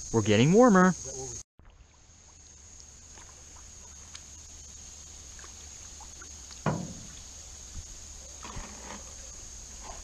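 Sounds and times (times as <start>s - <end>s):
insects droning: 0.0s - 10.0s
paddle dipping in water: 1.6s - 10.0s.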